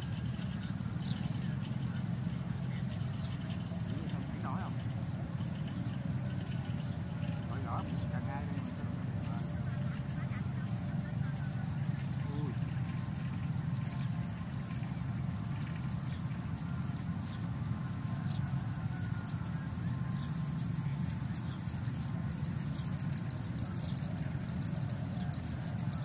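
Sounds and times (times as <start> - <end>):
quick run of chirps: 0.0 - 26.0.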